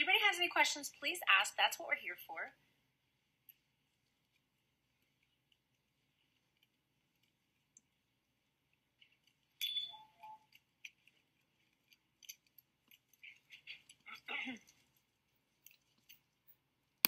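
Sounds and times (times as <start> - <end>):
crackle and clatter: 3.0 - 17.0.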